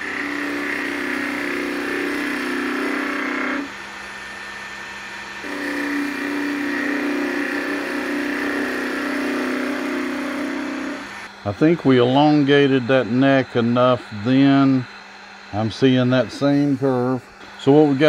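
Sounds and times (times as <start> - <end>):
gouge cutting wood on lathe: 0.0 - 18.0
wood lathe running: 0.0 - 18.0.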